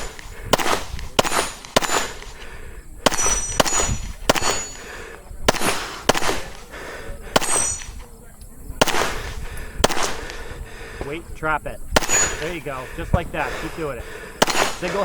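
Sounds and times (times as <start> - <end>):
pistol shots: 0.0 - 8.1, 8.8 - 10.5, 11.9 - 15.0.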